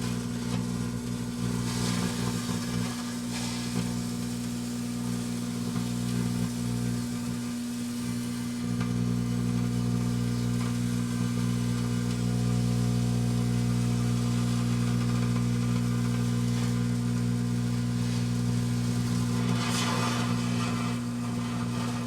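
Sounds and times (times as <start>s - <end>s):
microwave oven humming: 0.0s - 22.0s
sparkler hiss: 1.4s - 21.8s.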